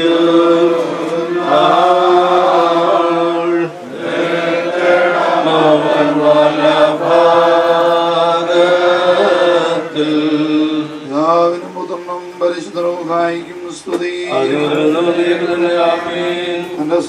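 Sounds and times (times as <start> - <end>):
men chanting a hymn: 0.0 - 17.0.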